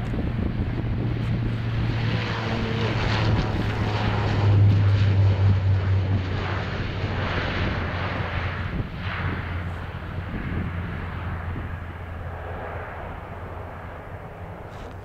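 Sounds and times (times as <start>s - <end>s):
turboprop airliner taking off: 0.0s - 15.0s.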